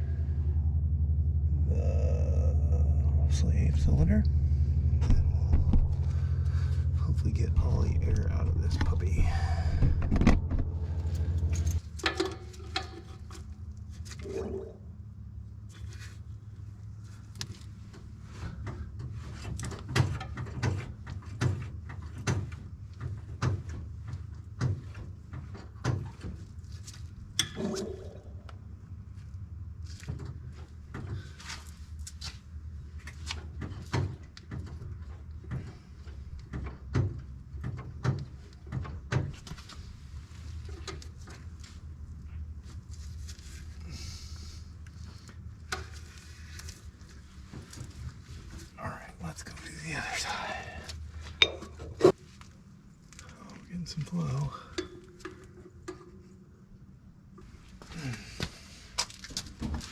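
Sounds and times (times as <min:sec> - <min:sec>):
steady low hum: 0:00.0 - 0:23.0, 0:34.9 - 0:59.9.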